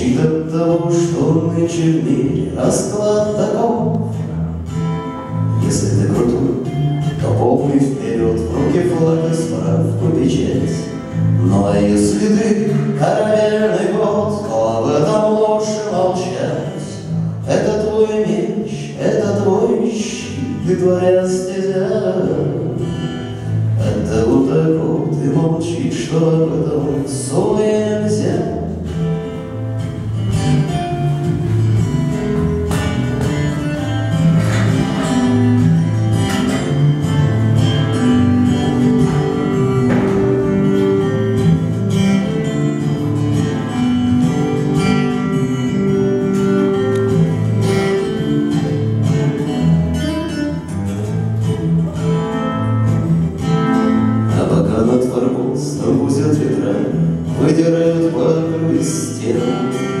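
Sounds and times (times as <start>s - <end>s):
acoustic guitar strumming: 0.0s - 60.0s.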